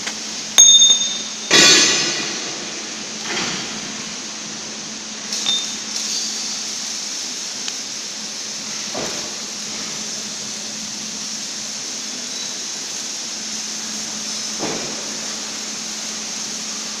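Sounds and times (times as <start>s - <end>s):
machinery low hum: 0.0s - 17.0s
steady hiss: 0.0s - 17.0s.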